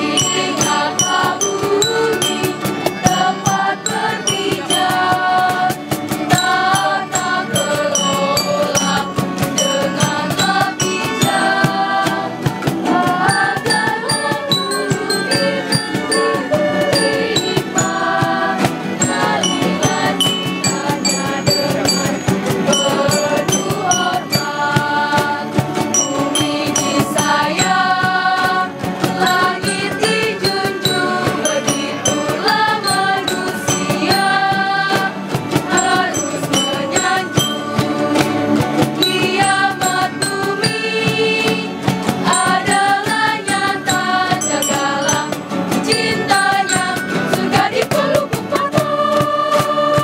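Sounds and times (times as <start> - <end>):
girls and women singing: 0.0 - 50.0
jingling shaken percussion: 0.0 - 50.0.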